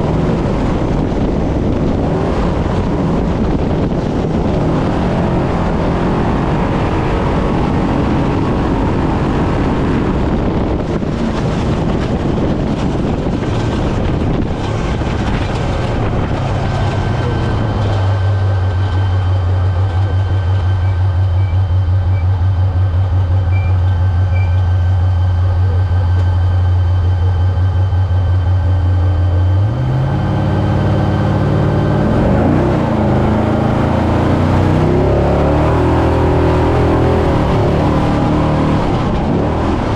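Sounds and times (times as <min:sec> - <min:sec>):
chassis rattling over rough ground: 0:00.0 - 0:39.9
truck engine accelerating: 0:00.0 - 0:39.9.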